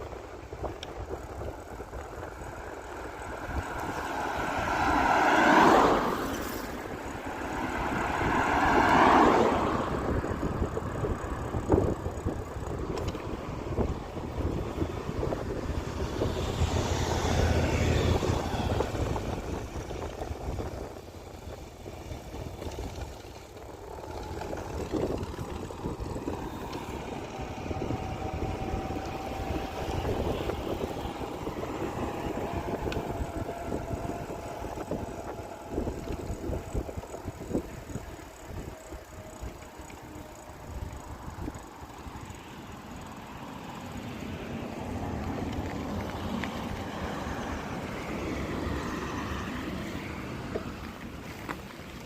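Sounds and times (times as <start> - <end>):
bicycle tyres rolling on path: 0.0 - 52.0
wind buffeting microphone: 0.0 - 52.0.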